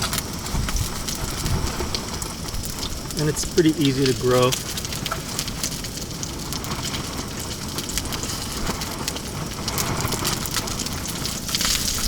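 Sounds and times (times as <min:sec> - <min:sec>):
fish sizzling in oil: 0:00.0 - 0:12.0
wind rumble: 0:00.0 - 0:12.0.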